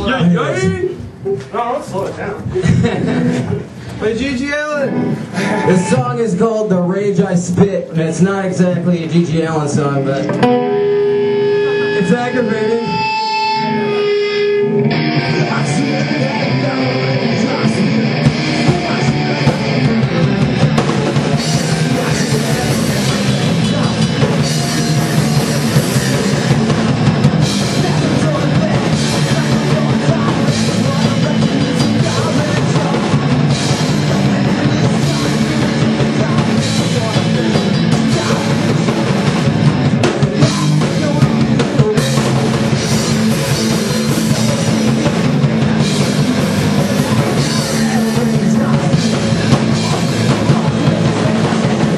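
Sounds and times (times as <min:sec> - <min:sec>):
punk band playing live: 0:00.0 - 0:51.9
distorted electric guitar: 0:02.5 - 0:07.6, 0:08.8 - 0:51.9.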